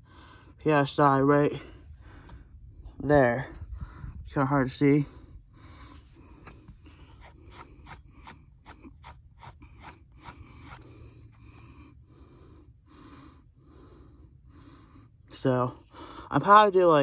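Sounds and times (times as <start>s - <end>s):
man breathing heavily: 0.0s - 0.6s, 1.6s - 16.4s.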